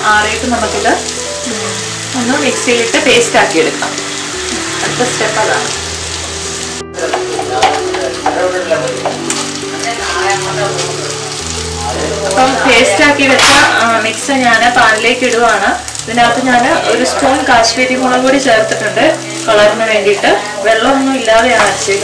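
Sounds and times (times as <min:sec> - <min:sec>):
onions sizzling in hot oil: 0:00.0 - 0:22.0
soft background music: 0:00.0 - 0:22.0.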